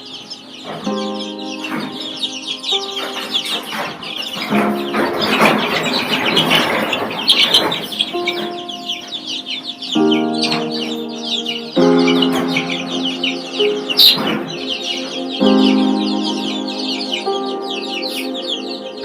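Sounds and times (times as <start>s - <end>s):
background music: 0.0s - 19.0s
chicks peeping: 0.0s - 19.0s.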